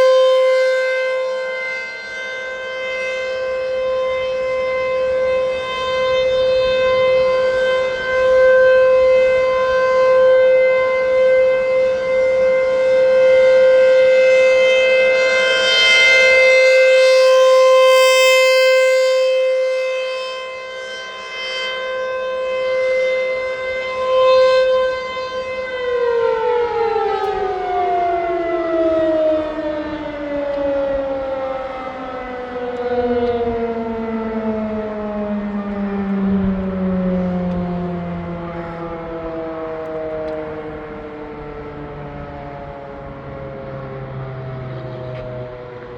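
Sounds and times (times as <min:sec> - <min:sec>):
warning siren: 0:00.0 - 0:45.9.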